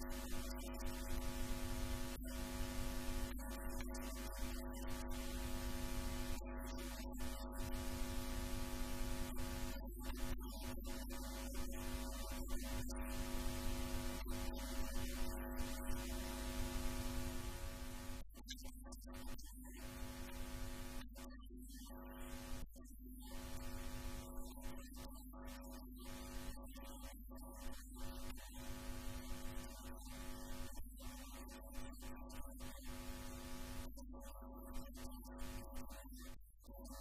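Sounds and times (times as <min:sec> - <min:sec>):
hum of held tones: 0:00.0 - 0:37.0.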